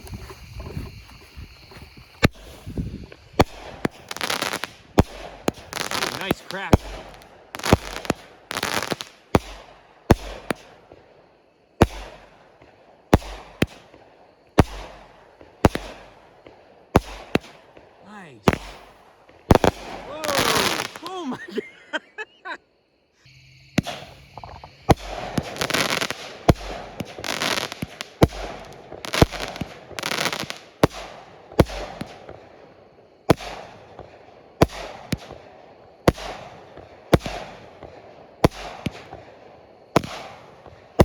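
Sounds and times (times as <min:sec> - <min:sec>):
firework bangs with crackle: 0:00.0 - 0:21.3, 0:23.7 - 0:41.0.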